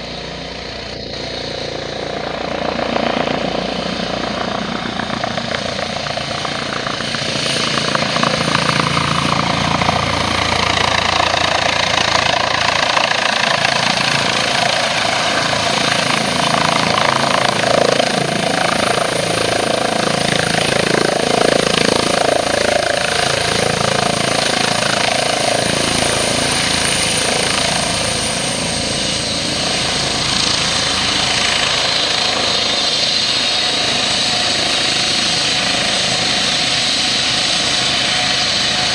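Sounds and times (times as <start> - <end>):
helicopter rotor noise: 0.0 - 38.9
high turbine whine: 0.0 - 38.9.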